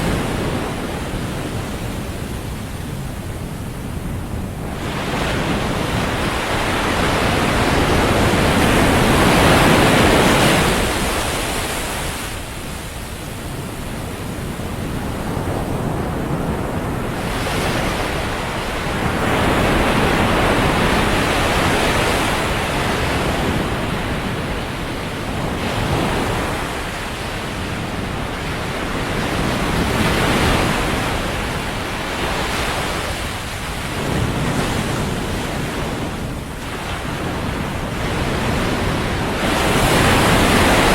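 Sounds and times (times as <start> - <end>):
waves breaking on a beach: 0.0 - 40.9
wind on the microphone: 0.0 - 40.9.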